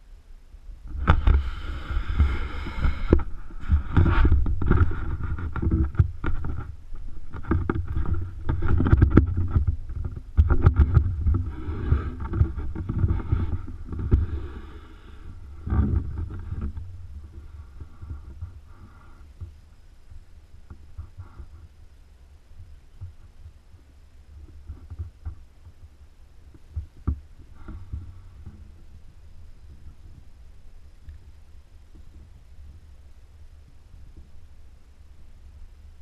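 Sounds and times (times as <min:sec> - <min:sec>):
low rumbling on microphone: 0:00.0 - 0:36.0.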